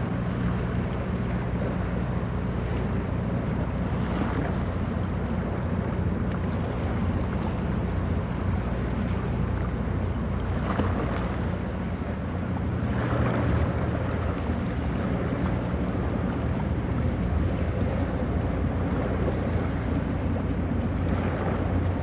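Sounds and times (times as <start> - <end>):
ship diesel engine drone: 0.0 - 22.0
water noise: 0.0 - 22.0
wind: 0.0 - 22.0.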